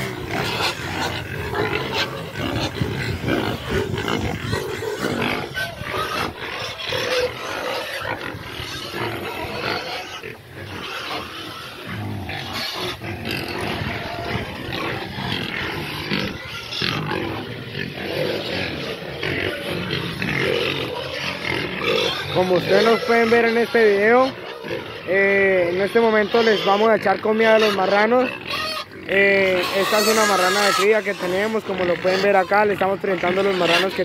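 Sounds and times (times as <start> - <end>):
pigs squealing and grunting: 0.0 - 34.0.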